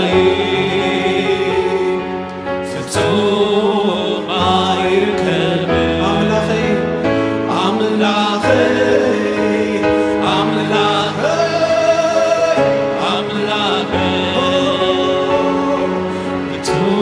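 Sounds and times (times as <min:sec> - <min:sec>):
keyboard accompaniment: 0:00.0 - 0:17.0
singers and choir singing: 0:00.0 - 0:17.0.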